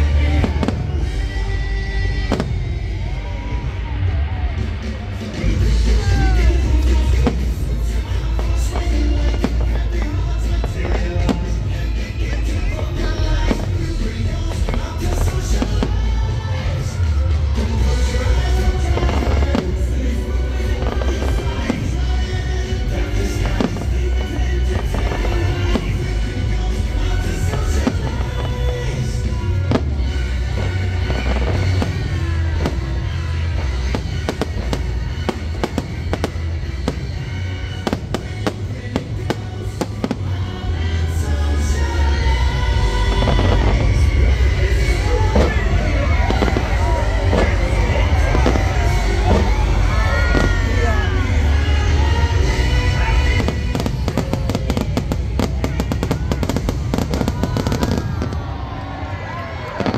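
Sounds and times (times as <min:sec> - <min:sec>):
low rumble: 0:00.0 - 0:59.5
fireworks bursting: 0:00.0 - 0:59.9
fireworks crackling: 0:00.0 - 0:59.9
music from outdoor speakers: 0:00.0 - 0:59.9.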